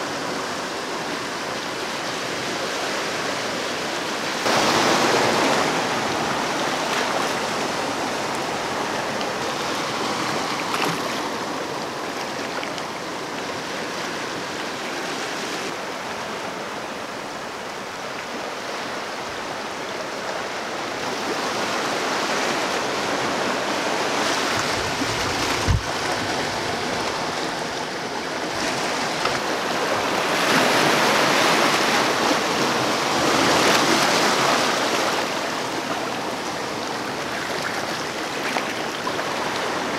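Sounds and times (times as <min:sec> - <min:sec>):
surf washing over rocks: 0:00.0 - 0:39.9.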